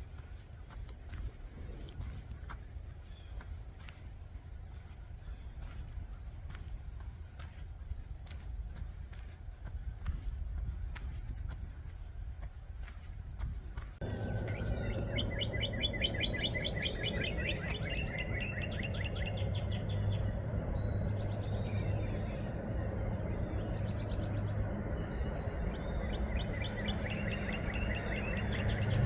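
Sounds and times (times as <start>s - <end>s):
songbirds chirping trills: 0.0s - 29.0s
wind rumble on microphone: 0.0s - 29.0s.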